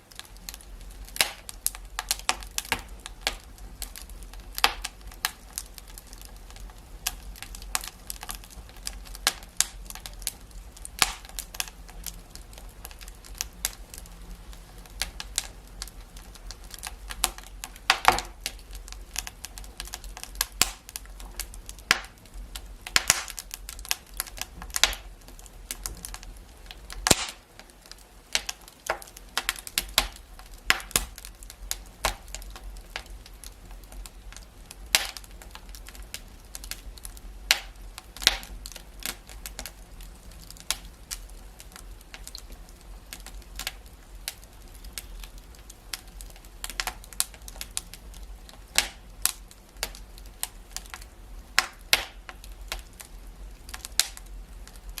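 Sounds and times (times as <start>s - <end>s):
faint hiss and low hum: 0.0s - 55.0s
fire crackling and popping: 0.0s - 55.0s.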